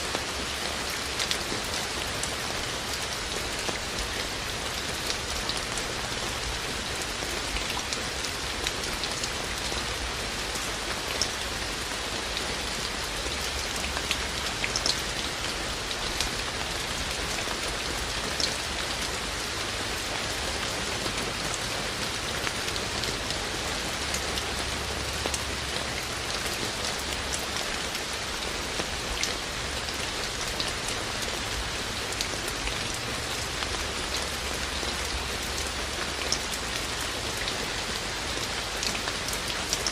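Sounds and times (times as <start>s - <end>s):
rain falling: 0.0s - 39.9s
raindrops pattering on surfaces: 0.0s - 39.9s.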